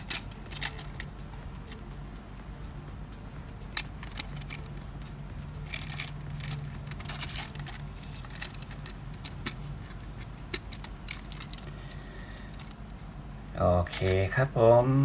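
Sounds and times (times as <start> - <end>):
plastic parts clicking and rattling: 0.0 - 1.8, 3.7 - 13.1, 13.8 - 14.9.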